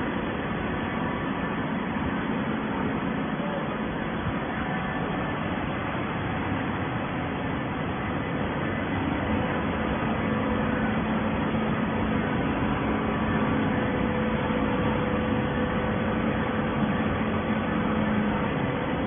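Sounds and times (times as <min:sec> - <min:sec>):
hydraulic machine humming: 0:00.0 - 0:19.0.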